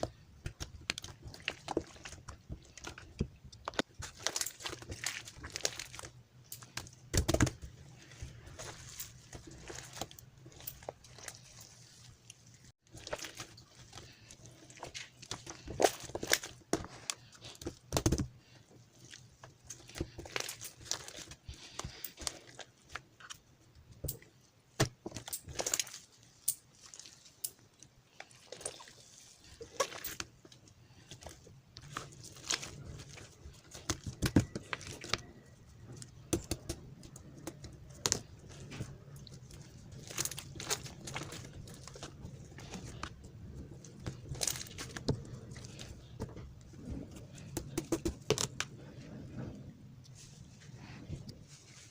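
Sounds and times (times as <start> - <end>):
crunching and crackling beads: 0.0 - 51.9.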